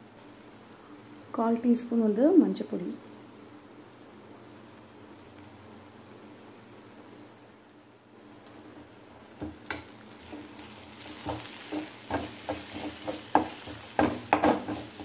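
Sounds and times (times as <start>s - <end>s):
light sizzle: 0.0s - 15.0s.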